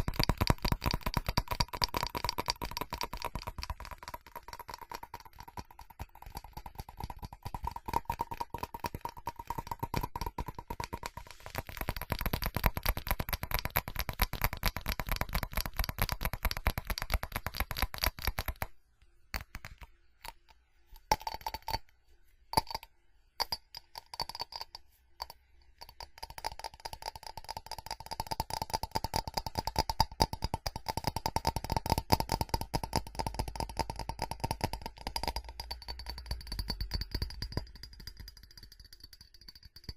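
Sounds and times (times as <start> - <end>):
fast tapping on ceramic: 0.0 - 18.7, 19.3 - 21.9, 22.5 - 39.9.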